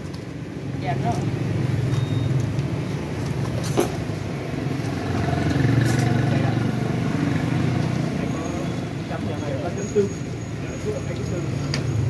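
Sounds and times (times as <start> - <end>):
street traffic: 0.0 - 12.0
vehicle engine humming: 0.0 - 12.0.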